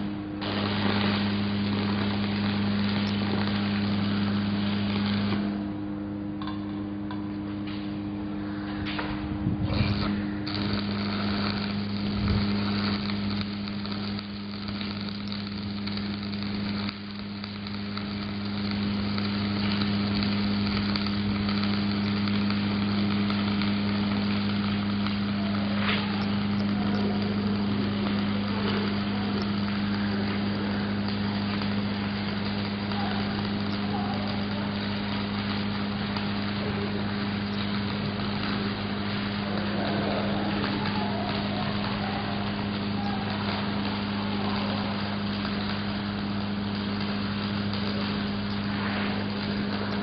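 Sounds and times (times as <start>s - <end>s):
welding arc crackling: 0.0s - 50.0s
welding machine electrical hum: 0.0s - 50.0s.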